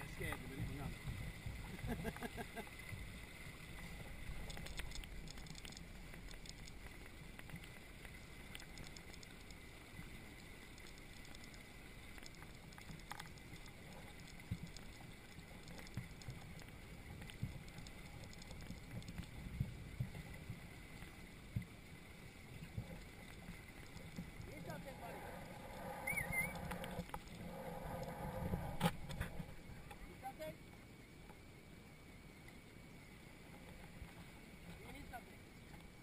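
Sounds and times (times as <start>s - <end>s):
water rumbling around hulls: 0.0s - 36.0s.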